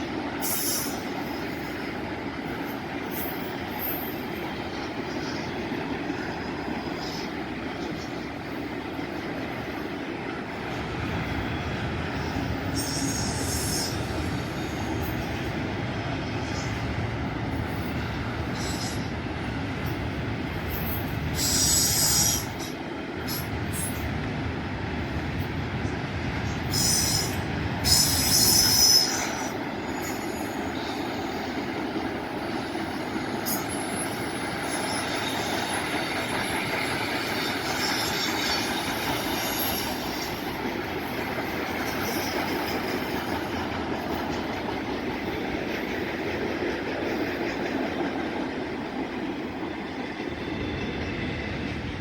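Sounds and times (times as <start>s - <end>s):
train wheels squealing: 0.0s - 24.2s, 25.4s - 52.0s
train cars rumbling past: 0.0s - 52.0s.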